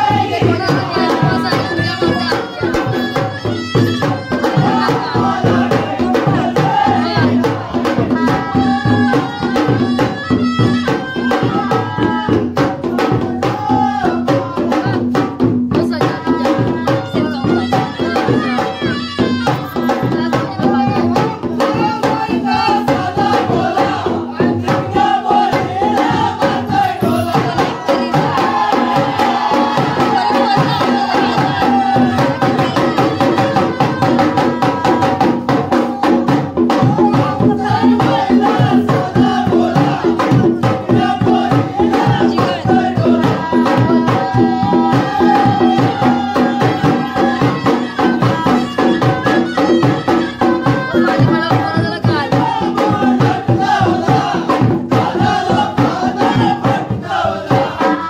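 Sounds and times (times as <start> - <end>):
fast dense drumming: 0.0 - 58.0.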